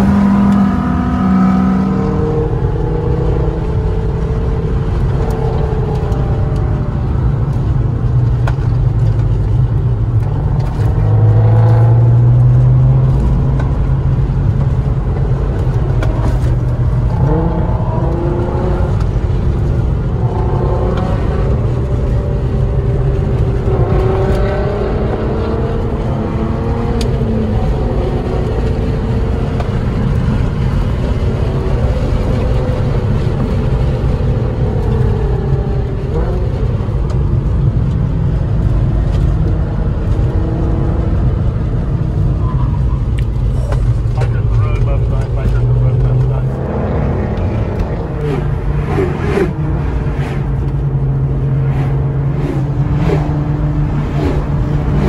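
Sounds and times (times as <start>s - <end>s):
car engine revving: 0.0s - 55.0s
road noise rumble: 0.0s - 55.0s.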